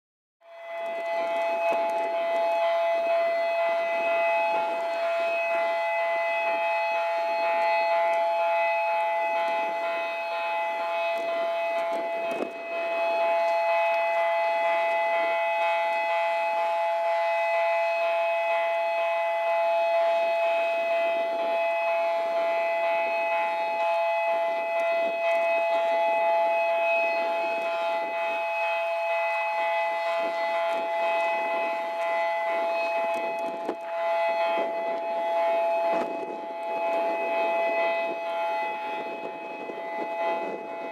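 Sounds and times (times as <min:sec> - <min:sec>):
bridge warning siren: 0:00.4 - 0:40.9
wind rumble on microphone: 0:00.6 - 0:40.9.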